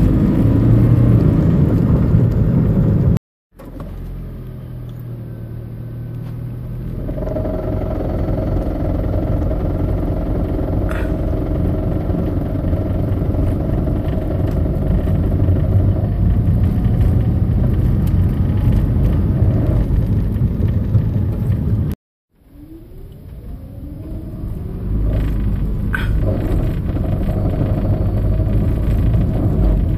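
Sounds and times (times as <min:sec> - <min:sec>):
car driving at low speed: 0:00.0 - 0:29.9.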